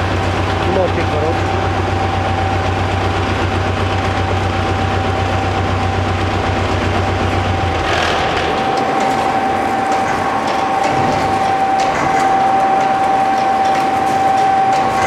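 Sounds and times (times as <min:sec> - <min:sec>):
shredder running under load: 0:00.0 - 0:15.0.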